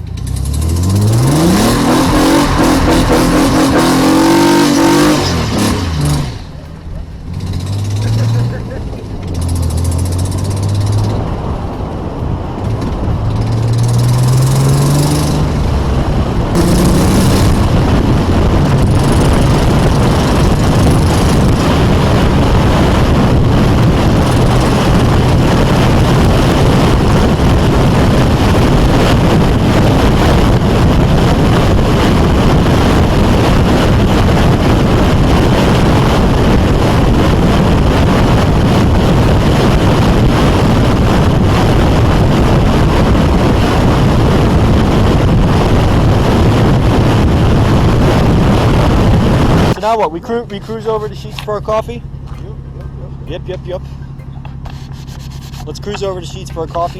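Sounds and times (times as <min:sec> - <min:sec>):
car engine accelerating: 0:00.0 - 0:56.9
road and wind noise: 0:00.0 - 0:56.9.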